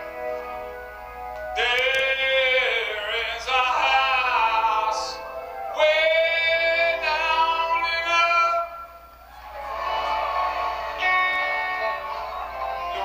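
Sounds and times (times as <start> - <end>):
man singing long held notes: 1.6 - 9.0, 9.7 - 13.0.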